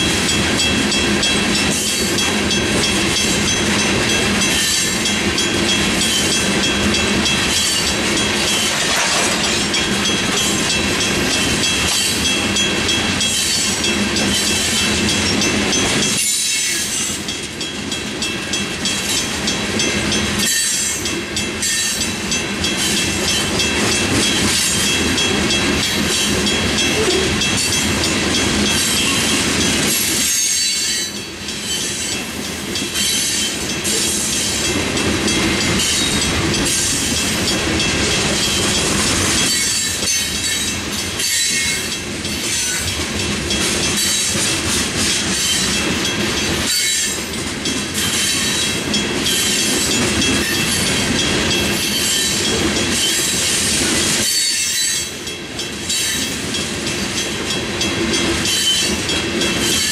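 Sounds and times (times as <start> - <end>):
crossing bells ringing: 0.0 - 59.9
train wheels clacking over rails: 0.0 - 59.9.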